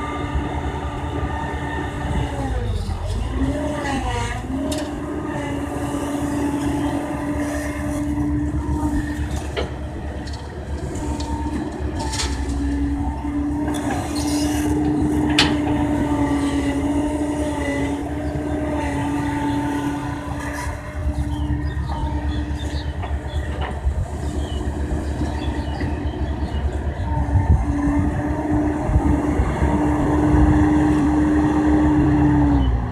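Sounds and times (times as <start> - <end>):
excavator engine droning with whine: 0.0 - 32.9.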